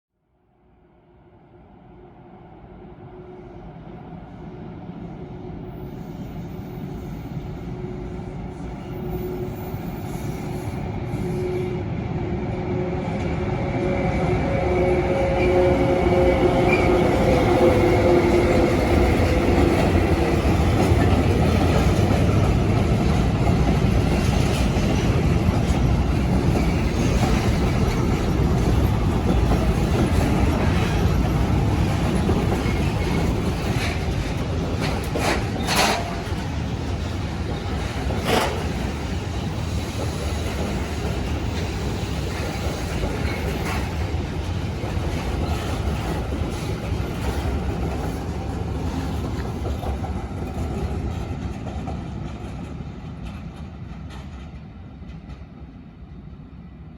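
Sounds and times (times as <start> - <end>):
train wheels rumbling on rail: 2.6 - 56.9.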